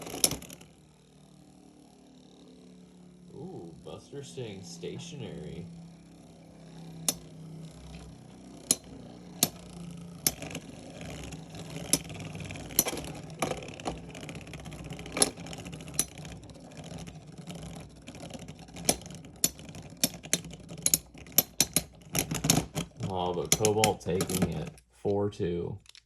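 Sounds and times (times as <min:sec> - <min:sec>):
spinning tops clacking together: 0:00.0 - 0:01.6, 0:04.5 - 0:24.6
spinning tops whirring: 0:00.0 - 0:24.8.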